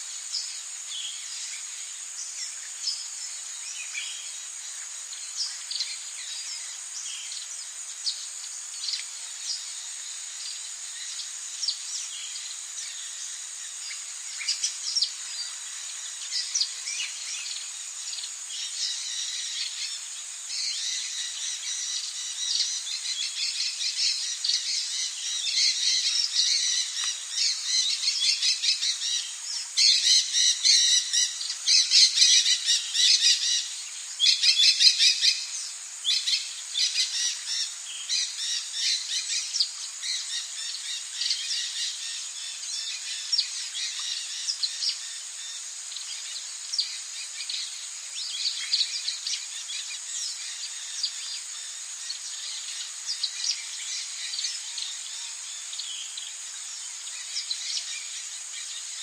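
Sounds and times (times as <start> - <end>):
high-pitched insect drone: 0.0 - 59.0
birds chirping and calling: 11.7 - 59.0.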